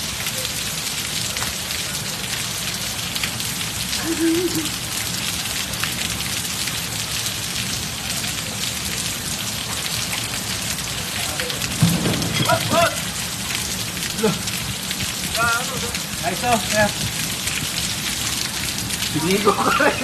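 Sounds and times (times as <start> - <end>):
heavy rain on pavement: 0.0 - 20.0.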